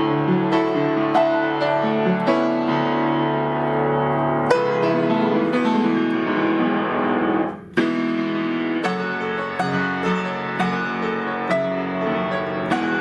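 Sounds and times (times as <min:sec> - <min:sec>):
solo piano: 0:00.0 - 0:13.0.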